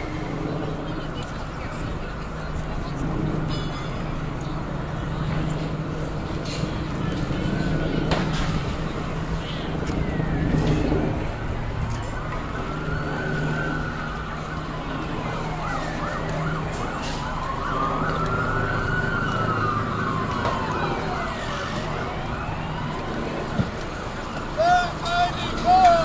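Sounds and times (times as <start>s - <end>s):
emergency siren wailing: 0.0s - 26.0s.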